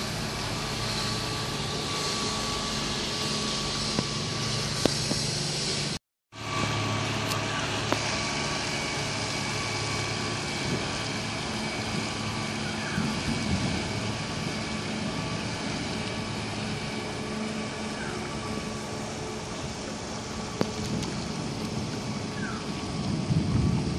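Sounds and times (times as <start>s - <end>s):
engine hum: 0.0s - 23.9s
outdoor background noise: 0.0s - 23.9s.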